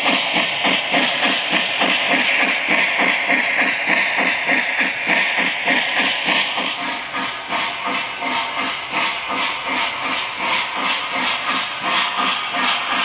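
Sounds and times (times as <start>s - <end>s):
steam hiss: 0.0s - 13.0s
steam locomotive chuffing: 0.0s - 13.0s.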